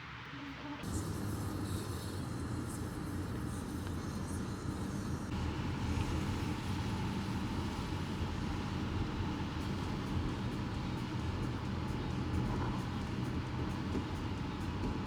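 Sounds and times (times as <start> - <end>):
vehicle driving rumble: 0.8 - 15.0.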